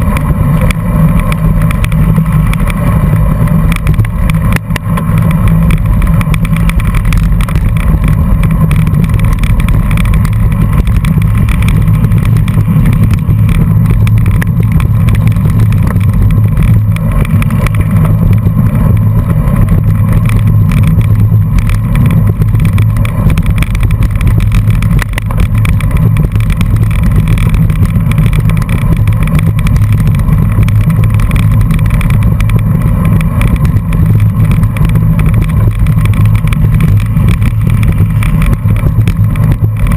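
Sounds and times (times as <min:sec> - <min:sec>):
bicycle road rumble: 0:00.0 - 0:39.9
wind buffeting microphone: 0:00.0 - 0:39.9.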